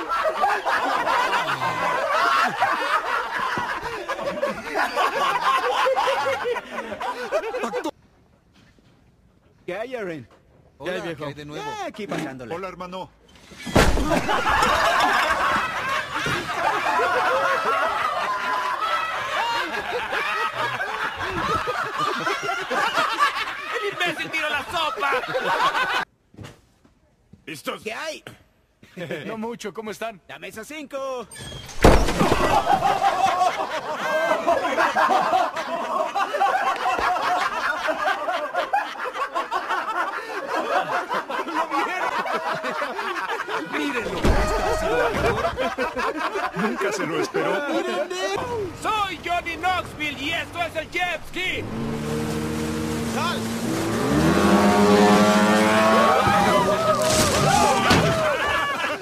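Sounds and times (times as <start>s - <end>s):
group of people laughing: 0.0s - 8.0s, 13.8s - 26.1s, 28.8s - 29.4s, 32.0s - 59.0s.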